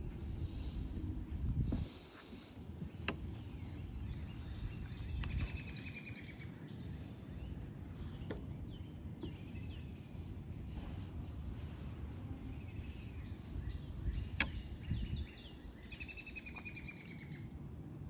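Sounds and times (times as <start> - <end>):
birds chirping: 1.6 - 17.9.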